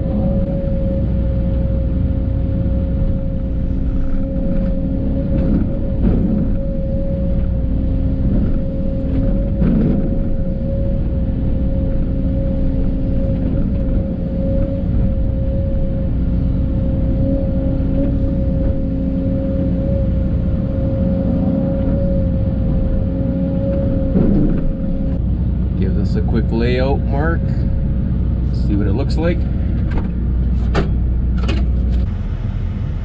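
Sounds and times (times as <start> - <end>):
diesel engine rumbling: 0.0 - 33.0
hydraulic whine: 0.0 - 33.0.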